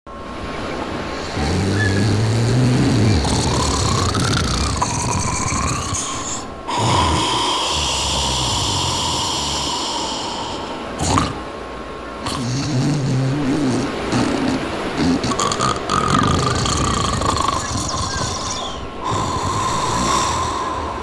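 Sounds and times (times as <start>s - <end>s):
man snoring: 1.2s - 11.4s, 12.2s - 21.0s.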